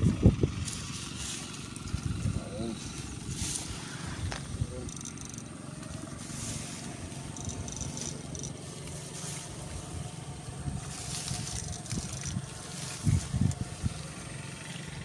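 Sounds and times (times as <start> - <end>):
rough electrical buzzing: 0.0 - 15.0.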